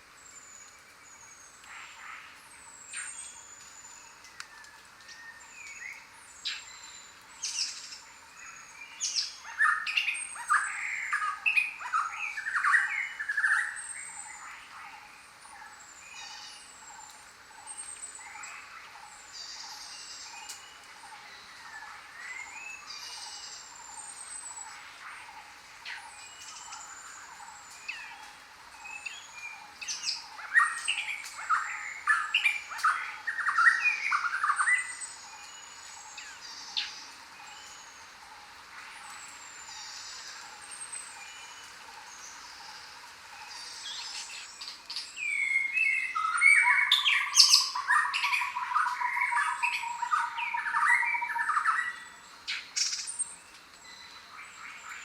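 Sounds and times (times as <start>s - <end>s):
birds chirping and singing: 0.4s - 55.0s.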